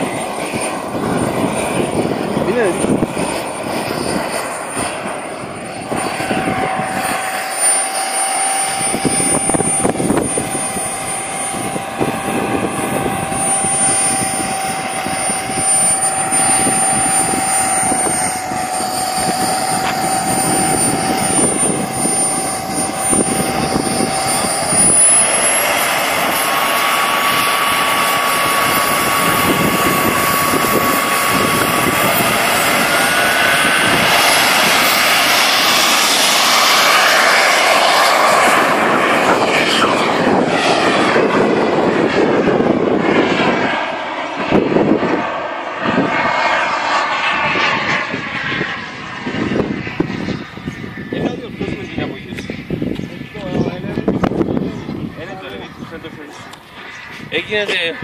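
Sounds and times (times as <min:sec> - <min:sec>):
model jet turbine whine: 0:00.0 - 0:58.0.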